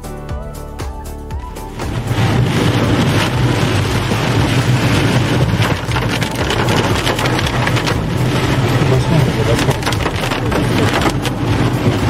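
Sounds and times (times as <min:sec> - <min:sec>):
car engine and road hum: 0:01.4 - 0:12.0
rain on windscreen: 0:01.7 - 0:12.0
wet tyres hissing: 0:01.8 - 0:12.0.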